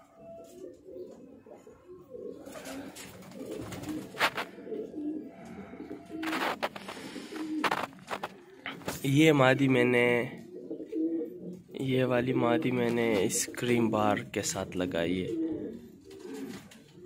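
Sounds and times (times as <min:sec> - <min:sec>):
pigeons cooing: 0:00.0 - 0:08.9, 0:09.6 - 0:17.0.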